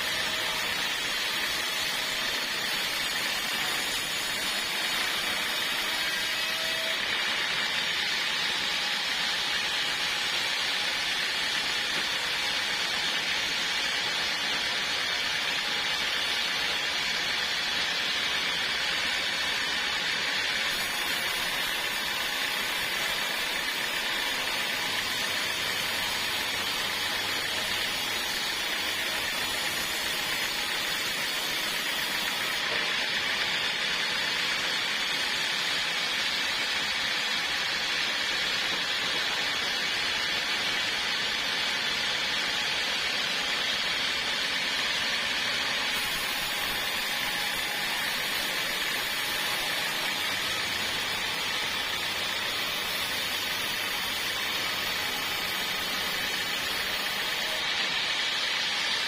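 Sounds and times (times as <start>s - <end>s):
sawmill cutting through log: 0.0s - 59.0s.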